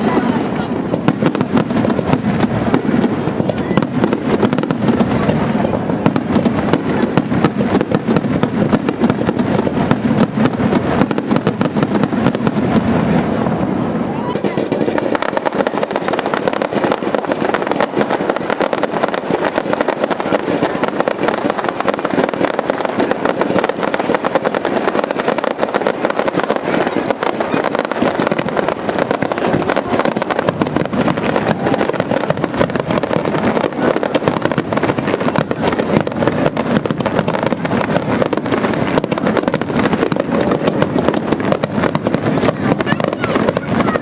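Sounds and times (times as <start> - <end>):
fireworks crackling and popping: 0.0 - 44.0.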